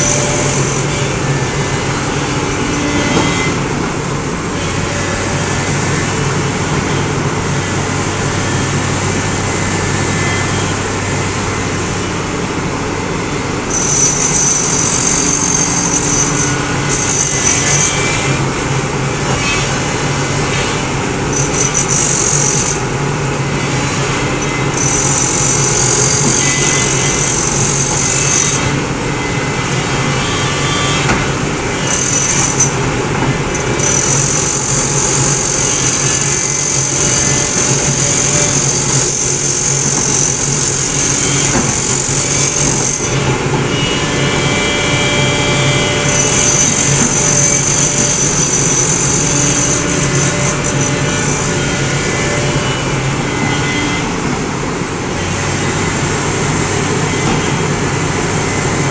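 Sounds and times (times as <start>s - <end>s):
excavator diesel engine running: 0.0s - 53.3s.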